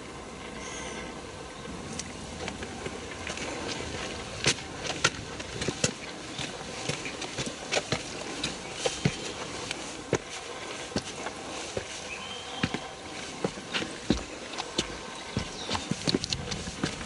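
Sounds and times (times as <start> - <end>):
footsteps on a path: 2.2 - 17.0.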